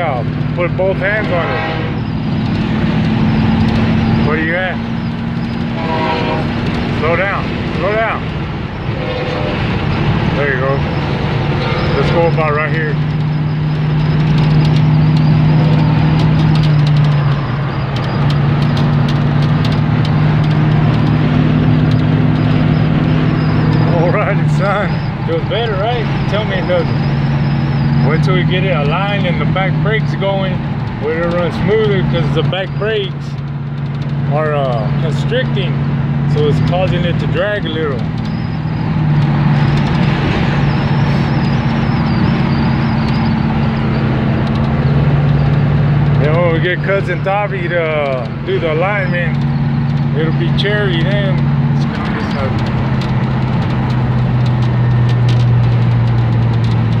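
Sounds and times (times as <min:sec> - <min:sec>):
road and wind noise: 0:00.0 - 0:57.0
truck engine drone: 0:00.0 - 0:57.0.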